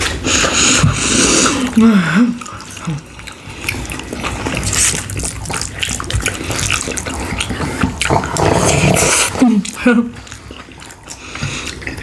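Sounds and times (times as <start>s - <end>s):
sticky mouth clicks: 0.0s - 12.0s
wet chewing: 0.0s - 12.0s.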